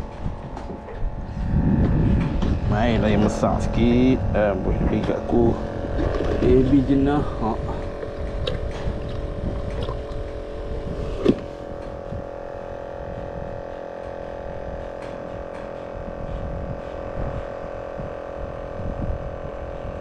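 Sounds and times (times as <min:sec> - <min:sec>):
steady motor hum: 0:00.0 - 0:20.0.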